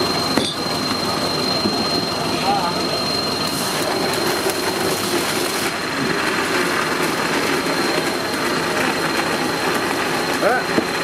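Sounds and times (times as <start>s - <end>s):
mixer grinder motor whirring: 0.0s - 11.0s.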